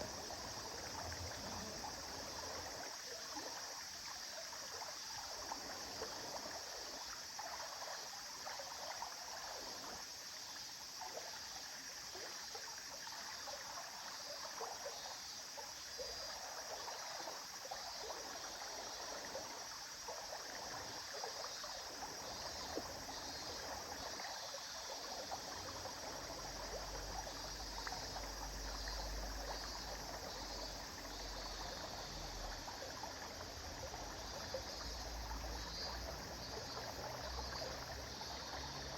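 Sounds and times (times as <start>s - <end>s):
river water babbling over stones: 0.0s - 38.9s.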